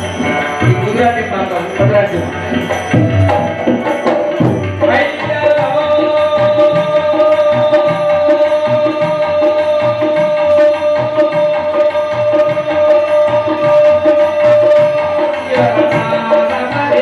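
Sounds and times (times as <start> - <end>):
hand drums rhythm: 0.0 - 17.0.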